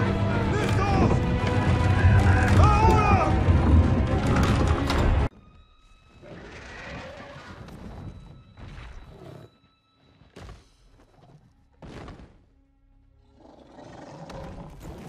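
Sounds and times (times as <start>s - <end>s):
quiet film music: 0.0s - 15.0s.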